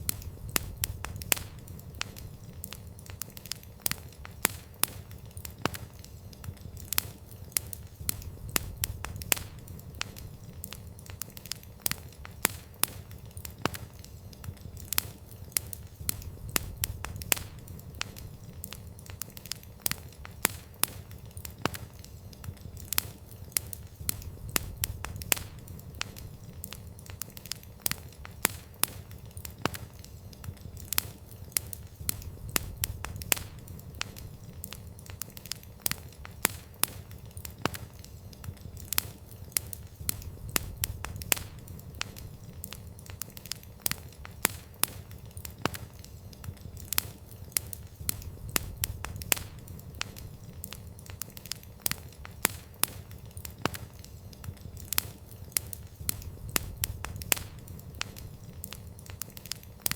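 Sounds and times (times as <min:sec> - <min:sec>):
campfire crackling and popping: 0:00.0 - 0:59.9
low rumble of fire: 0:00.0 - 0:59.9.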